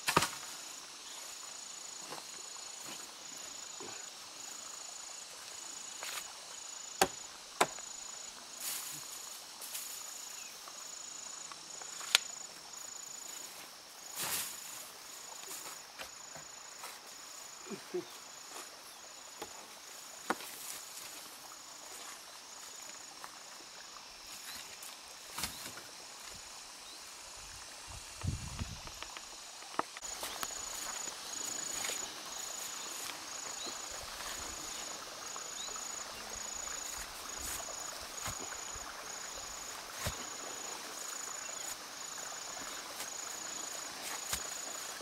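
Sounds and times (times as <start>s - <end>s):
insect chirring: 0.0s - 45.0s.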